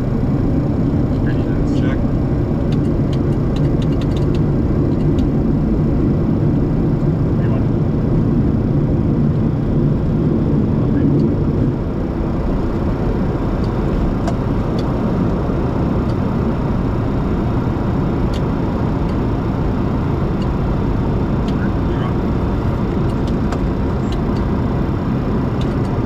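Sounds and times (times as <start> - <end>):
jet engines loud rumble: 0.0 - 26.0.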